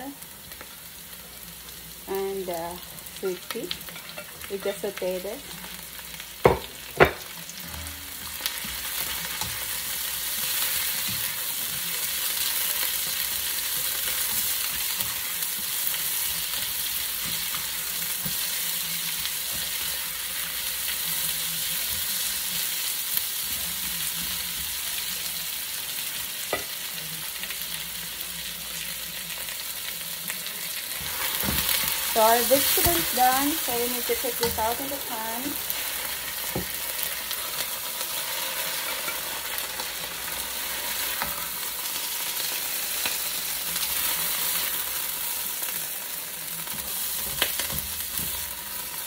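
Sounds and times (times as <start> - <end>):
vegetables sizzling in a wok: 0.0 - 49.0.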